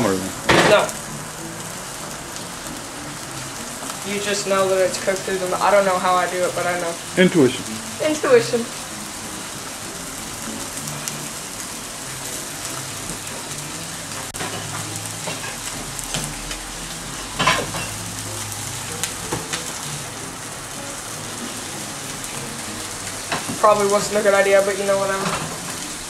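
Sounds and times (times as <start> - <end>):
chicken sizzling in a skillet: 0.0 - 26.0.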